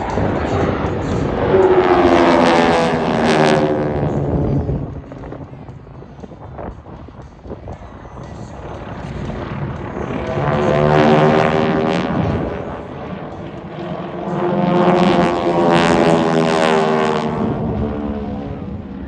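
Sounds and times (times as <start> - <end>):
propeller airplanes droning: 0.0 - 19.0.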